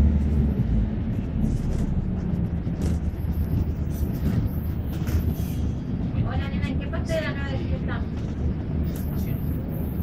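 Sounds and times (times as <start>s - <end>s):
bus engine rumble: 0.0s - 10.0s
road noise: 0.0s - 10.0s.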